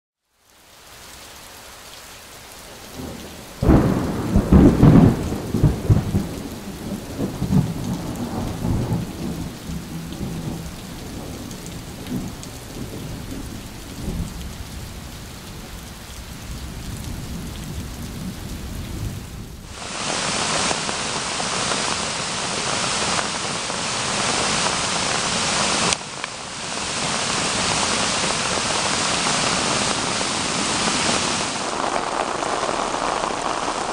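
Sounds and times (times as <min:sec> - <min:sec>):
steady rain: 0:00.2 - 0:33.9
rush of water: 0:00.4 - 0:33.9
thunder rumbling: 0:03.0 - 0:14.8, 0:16.4 - 0:33.9.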